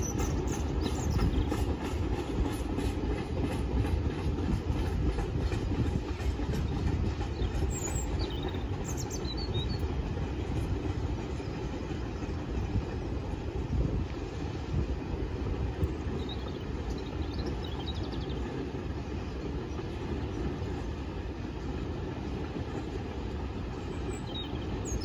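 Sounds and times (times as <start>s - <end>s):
freight train rumbling: 0.0s - 25.0s.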